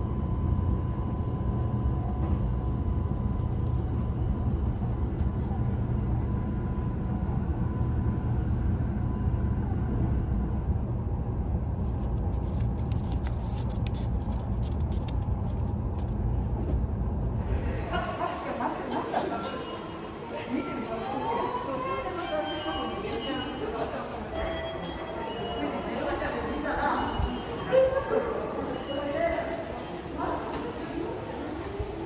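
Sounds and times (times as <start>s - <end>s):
train cabin low rumble: 0.0s - 32.0s.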